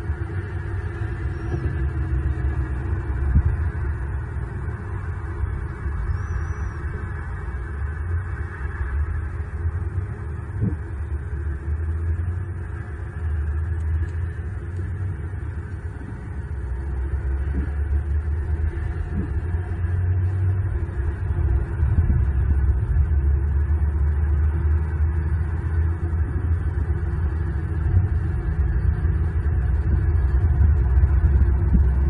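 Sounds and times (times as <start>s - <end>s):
outdoor background rumble: 0.0s - 32.0s.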